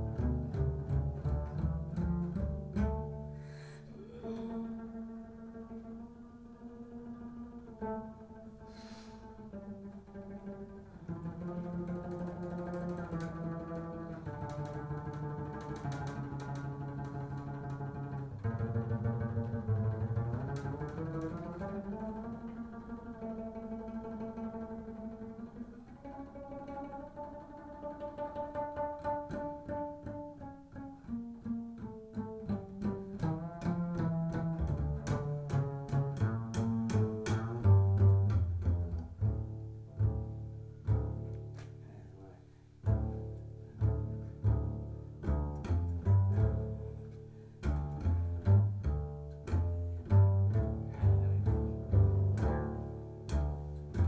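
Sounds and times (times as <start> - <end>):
double bass long notes: 0.0 - 54.0.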